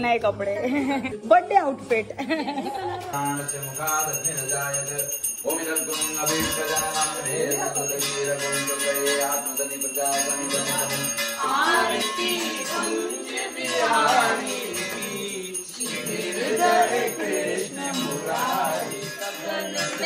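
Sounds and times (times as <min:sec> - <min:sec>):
devotional singing with music: 0:03.1 - 0:20.0
hand bell ringing: 0:03.1 - 0:20.0.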